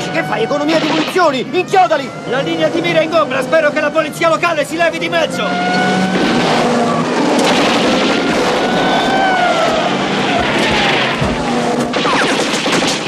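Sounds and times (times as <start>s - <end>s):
rising and falling whines: 0.0s - 12.3s
car engines running hard: 0.0s - 13.0s.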